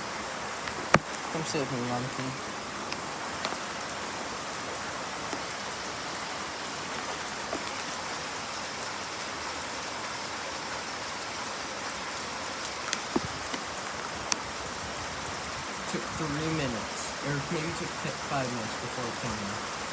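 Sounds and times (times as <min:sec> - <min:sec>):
close raindrops striking: 0:00.0 - 0:19.9
steady rain hiss: 0:00.0 - 0:19.9.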